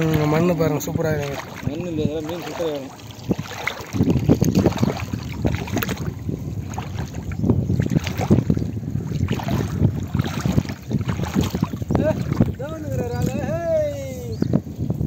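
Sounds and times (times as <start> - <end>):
water splashing and sloshing: 0.0 - 13.8
wind buffeting microphone: 0.0 - 15.0.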